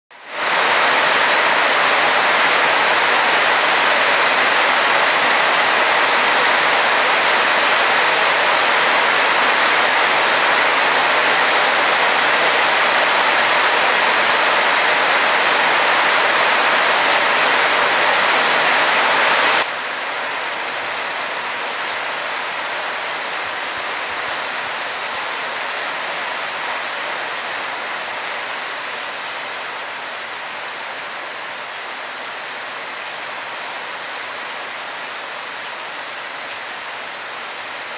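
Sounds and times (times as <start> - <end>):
heavy rain hissing: 0.2 - 37.9.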